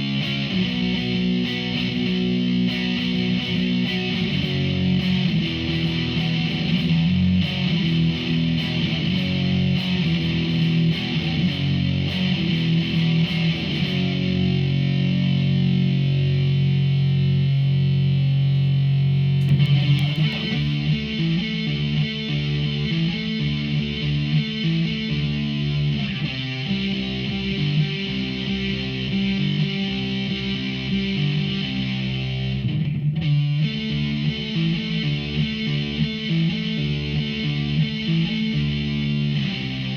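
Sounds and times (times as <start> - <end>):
distorted electric guitar riffing: 0.0 - 39.9.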